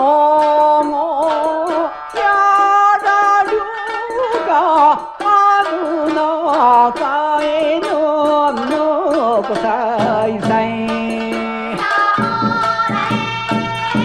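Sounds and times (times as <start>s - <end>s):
man singing folk song: 0.0s - 12.0s
traditional instrumental accompaniment: 0.0s - 14.0s.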